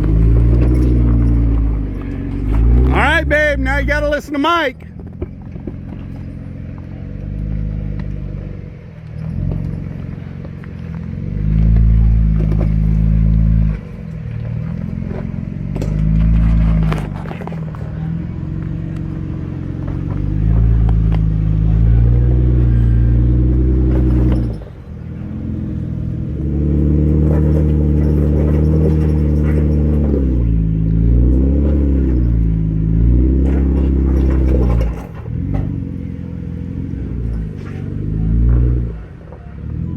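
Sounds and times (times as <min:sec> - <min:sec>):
clatter and scraping under car: 0:00.0 - 0:04.2, 0:04.8 - 0:39.9
car engine revving: 0:00.0 - 0:39.9.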